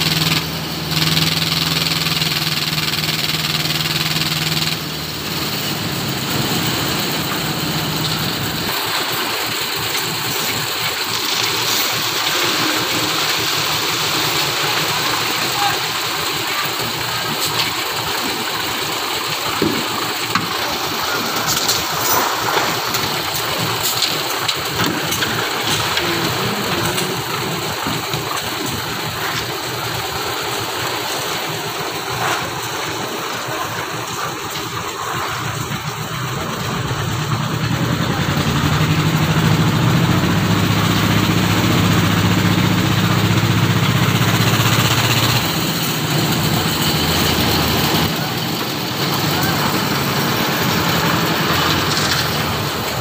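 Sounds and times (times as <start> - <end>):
concrete mixer engine running: 0.0 - 53.0
low engine drone: 0.0 - 53.0.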